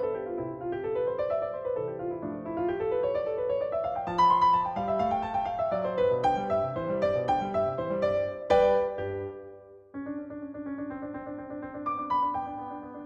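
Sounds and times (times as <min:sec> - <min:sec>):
piano arpeggios: 0:00.0 - 0:13.0.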